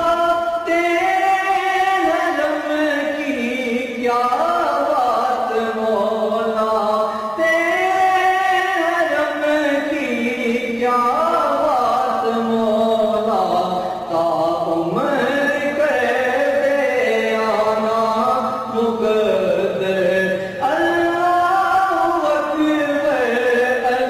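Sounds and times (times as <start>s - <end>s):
person chanting with reverb: 0.0s - 24.0s.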